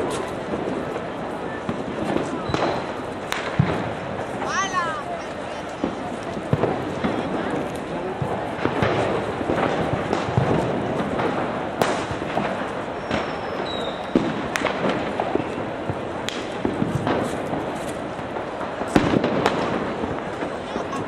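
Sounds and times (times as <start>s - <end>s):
city background noise: 0.0s - 21.0s
firecrackers banging: 0.0s - 21.0s.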